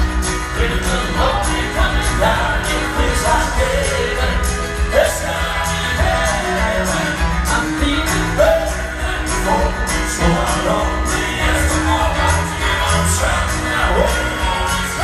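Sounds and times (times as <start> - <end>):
male quartet singing in harmony: 0.0 - 15.0
piano and band accompaniment: 0.0 - 15.0.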